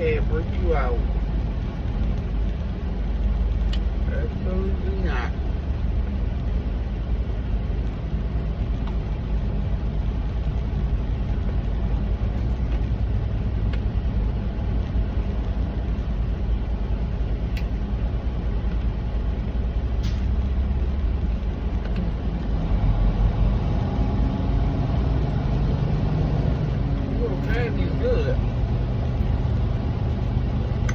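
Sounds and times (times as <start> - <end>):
road noise: 0.0 - 30.9
truck engine droning: 0.0 - 30.9.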